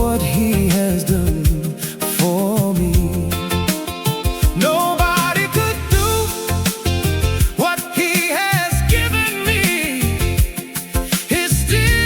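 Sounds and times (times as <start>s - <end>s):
upbeat gospel music: 0.0s - 12.0s.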